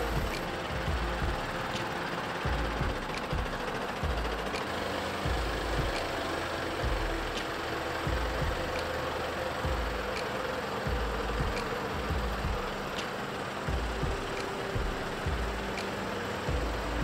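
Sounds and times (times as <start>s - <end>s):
diesel engine rumbling at low revs: 0.0s - 17.0s.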